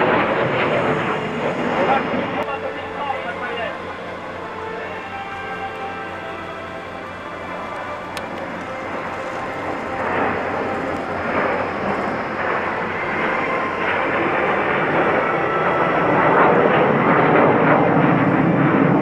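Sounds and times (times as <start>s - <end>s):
jet roar flying by: 0.0s - 19.0s.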